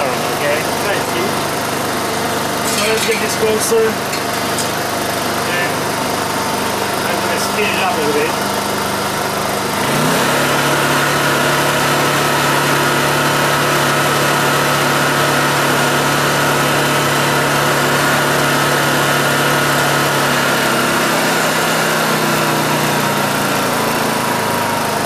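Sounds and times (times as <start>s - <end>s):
generator engine running: 0.0s - 25.0s.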